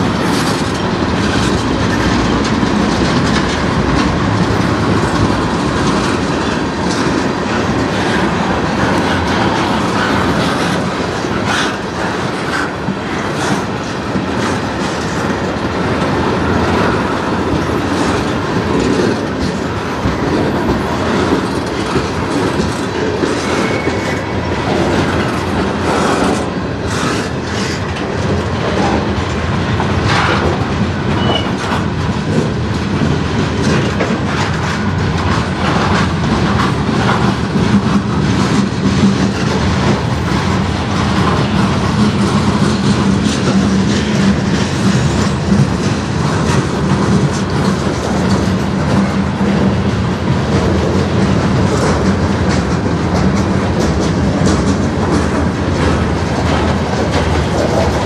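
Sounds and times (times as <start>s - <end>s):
clickety-clack of wheels on rail joints: 0.0s - 58.0s
freight train rumbling: 0.0s - 58.0s.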